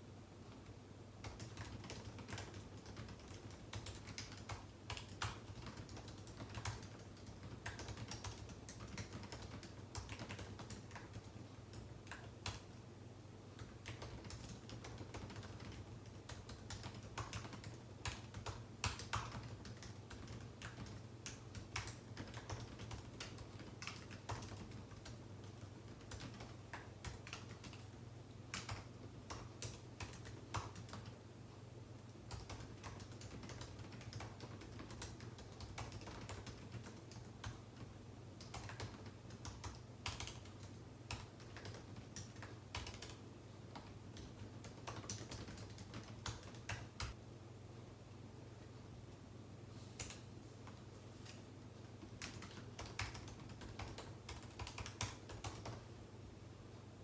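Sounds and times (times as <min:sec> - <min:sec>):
faint steady low hum: 0:00.0 - 0:57.0.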